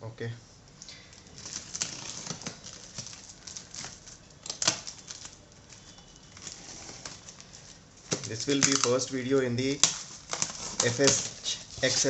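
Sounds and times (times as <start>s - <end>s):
packaging rustling and crackling: 0.7s - 12.0s.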